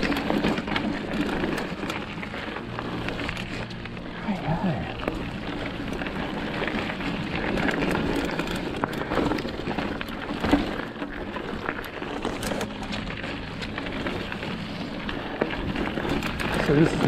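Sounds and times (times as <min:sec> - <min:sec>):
bike clicking and knocking: 0:00.0 - 0:04.1, 0:05.0 - 0:17.0
bike tyres crunching over dirt: 0:00.0 - 0:17.0.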